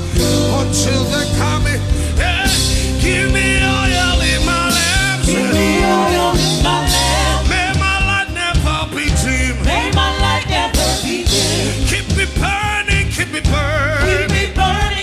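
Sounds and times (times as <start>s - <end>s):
band with bass and drums: 0.0s - 15.0s.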